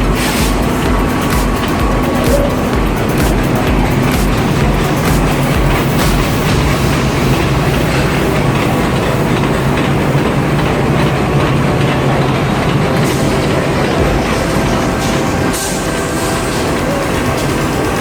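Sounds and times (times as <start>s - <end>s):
heavy machinery rumbling: 0.0s - 18.0s.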